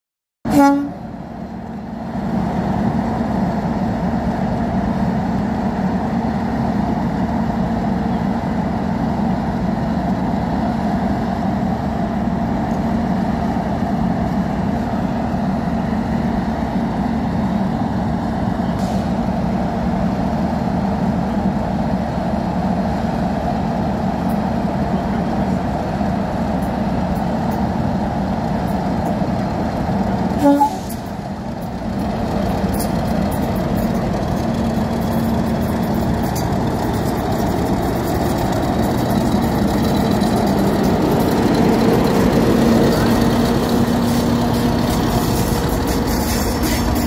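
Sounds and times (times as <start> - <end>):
diesel locomotive engine running: 0.5 - 47.0.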